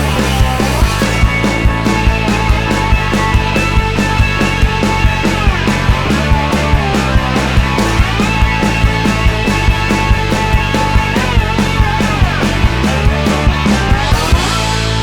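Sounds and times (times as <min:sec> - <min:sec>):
driving drum beat: 0:00.0 - 0:15.0
rock music: 0:00.0 - 0:15.0.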